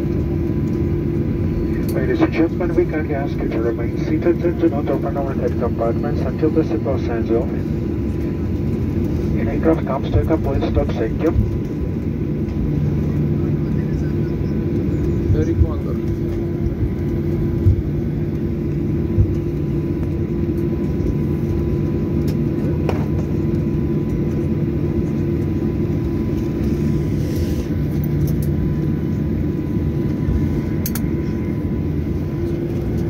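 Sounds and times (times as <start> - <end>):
jet engines idling: 0.0 - 33.0.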